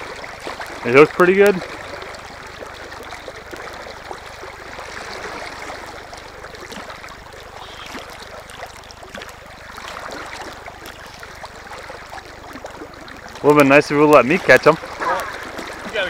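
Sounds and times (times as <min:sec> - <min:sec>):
fish splashing at surface: 0:00.0 - 0:13.5, 0:14.4 - 0:16.0
stream water rippling: 0:00.0 - 0:16.0.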